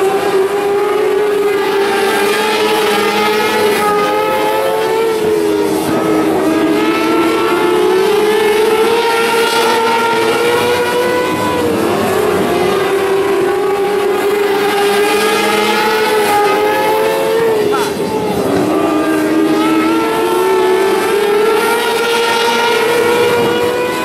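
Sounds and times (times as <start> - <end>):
race car engines at high revs: 0.0 - 24.0.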